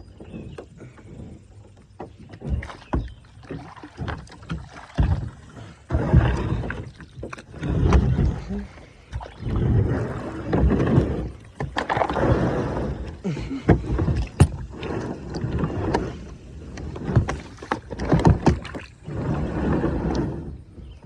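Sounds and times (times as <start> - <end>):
paddle splashing water: 0.0 - 21.0.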